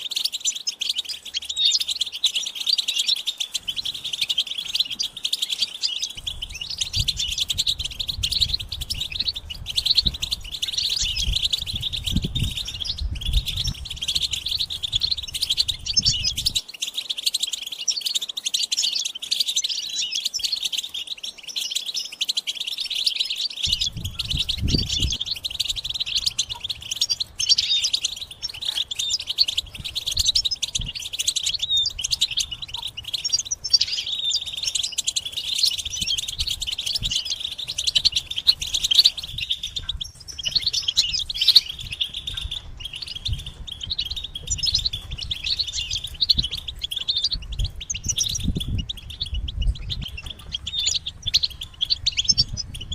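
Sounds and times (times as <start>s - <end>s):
finches chattering and twittering: 0.0s - 52.9s.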